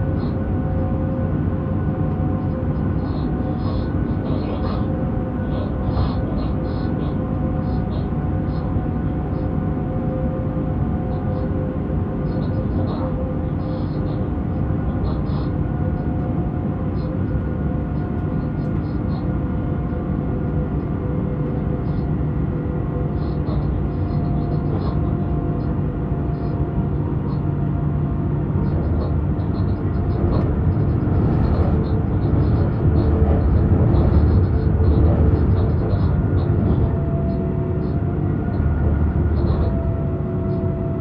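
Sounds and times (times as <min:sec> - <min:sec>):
electric locomotive rumbling: 0:00.0 - 0:41.0.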